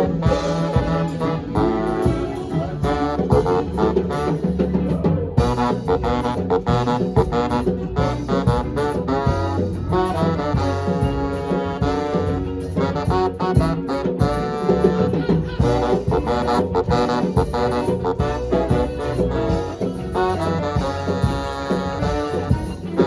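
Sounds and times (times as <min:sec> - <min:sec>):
drums: 0:00.0 - 0:23.0
horns holding long notes: 0:00.0 - 0:23.0
swing band playing: 0:00.0 - 0:23.0.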